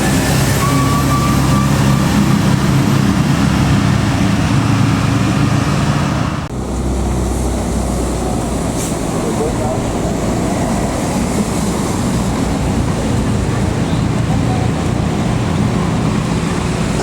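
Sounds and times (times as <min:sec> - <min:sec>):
bus diesel engine passing: 0:00.0 - 0:17.0
tyre and road noise: 0:00.0 - 0:17.0.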